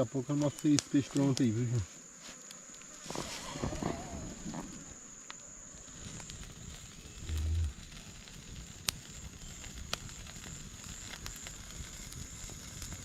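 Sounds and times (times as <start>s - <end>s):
fire popping: 0.0s - 1.8s, 2.4s - 13.0s
campfire crackling: 0.0s - 13.0s
insect drone: 0.0s - 13.0s.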